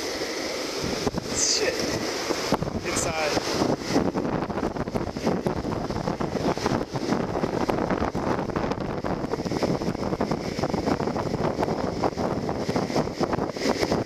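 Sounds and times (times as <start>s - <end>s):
longboard wheels rumbling on asphalt: 0.0s - 14.0s
wind on microphone: 0.0s - 14.0s.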